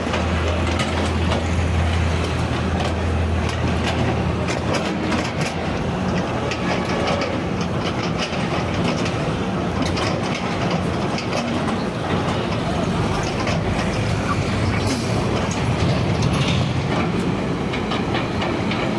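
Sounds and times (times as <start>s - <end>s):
heavy engine rattling and clanking: 0.0s - 18.9s.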